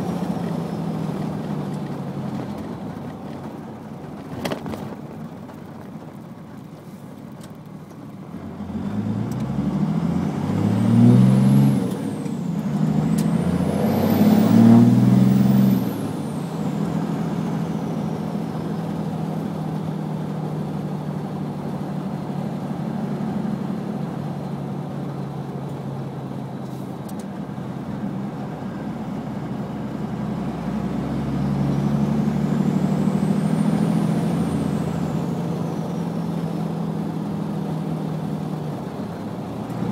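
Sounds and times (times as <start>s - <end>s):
diesel engine pulling hard: 0.0s - 39.9s.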